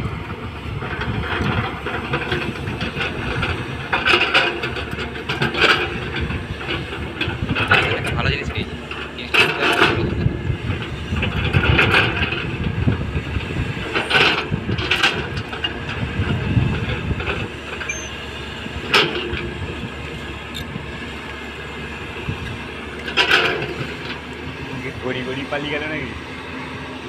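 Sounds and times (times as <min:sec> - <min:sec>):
diesel machine rumbling: 0:00.0 - 0:27.0.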